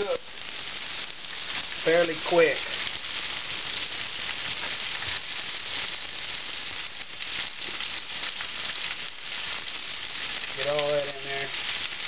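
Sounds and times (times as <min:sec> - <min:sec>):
food sizzling in grease: 0:00.0 - 0:12.0.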